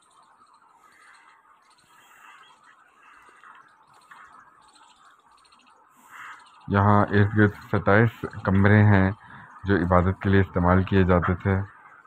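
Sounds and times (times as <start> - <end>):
soft outdoor hiss: 0.0 - 12.0.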